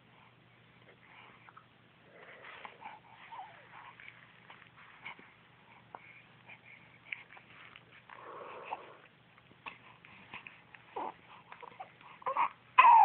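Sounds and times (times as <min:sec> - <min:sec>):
baby fussing and whimpering: 0:02.2 - 0:13.0.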